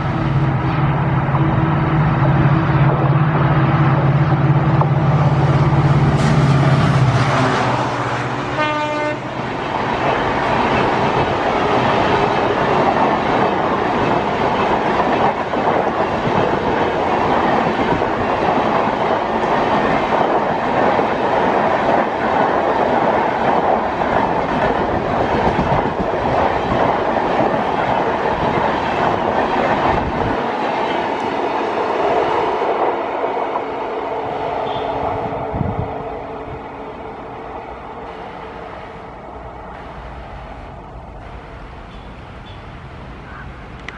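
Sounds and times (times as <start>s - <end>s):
deep train rumble: 0.0s - 43.9s
steady train hum: 0.0s - 43.9s
train passing with wheels clattering: 0.0s - 43.9s.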